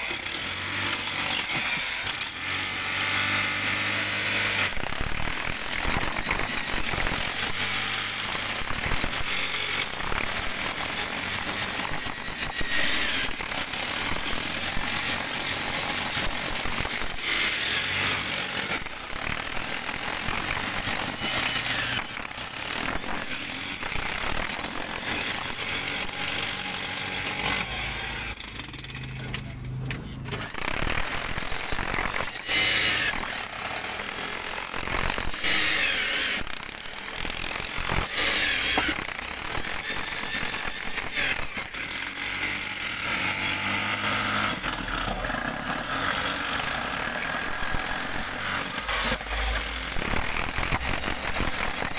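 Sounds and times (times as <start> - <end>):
jackhammer chiselling rock: 0.0 - 29.5, 30.3 - 51.9.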